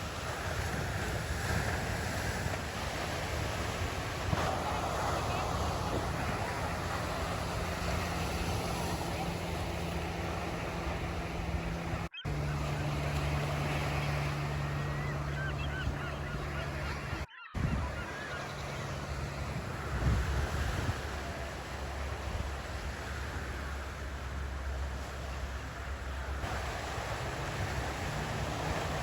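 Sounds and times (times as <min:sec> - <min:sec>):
ocean surf on beach: 0:00.0 - 0:29.0
wind on microphone: 0:00.0 - 0:29.0.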